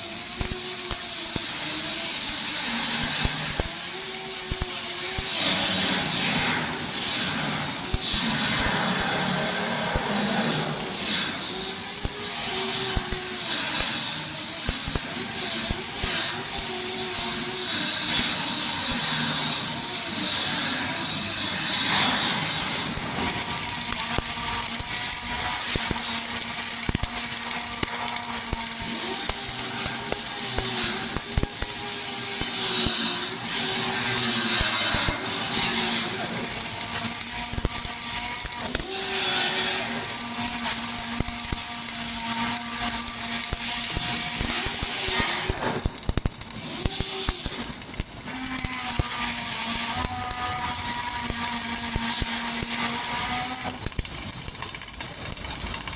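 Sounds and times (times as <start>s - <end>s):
crackling clicks: 0.2s - 19.7s, 21.4s - 55.9s.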